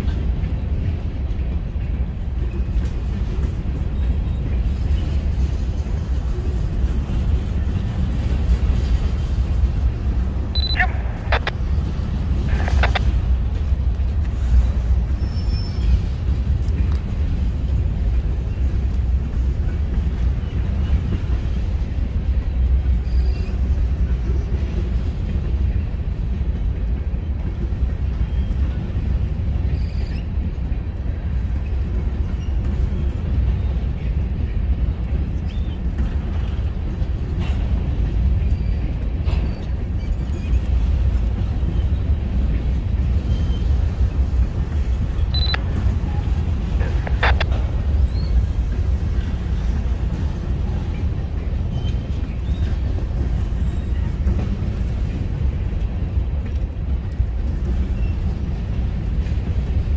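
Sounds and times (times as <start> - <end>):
train clicks and clanks: 0.0 - 59.9
train wheels rumbling on rails: 0.0 - 59.9.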